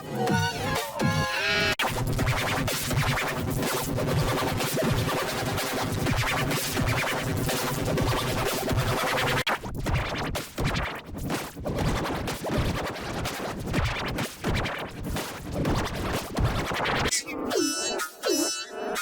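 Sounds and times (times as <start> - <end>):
distorted scratchy stuttering audio: 0.1 - 17.1.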